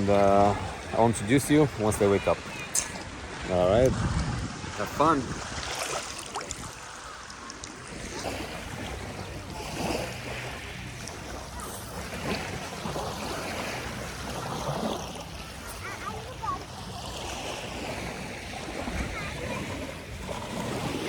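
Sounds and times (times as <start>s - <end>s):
waves washing on shore: 0.0s - 21.0s
wind buffeting microphone: 0.0s - 21.0s.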